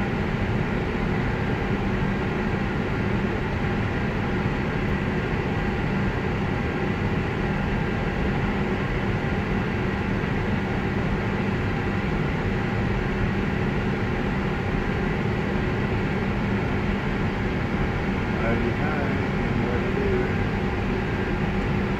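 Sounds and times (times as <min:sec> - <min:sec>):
ventilation fans running: 0:00.0 - 0:21.9
jet engines idling: 0:00.2 - 0:21.9.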